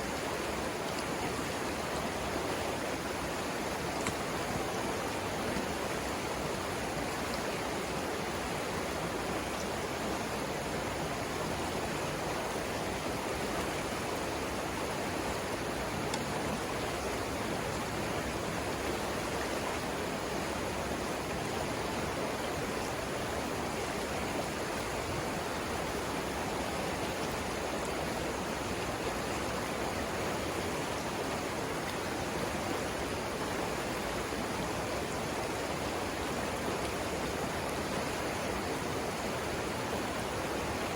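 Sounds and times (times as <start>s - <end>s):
water rushing over rapids: 0.0s - 40.9s.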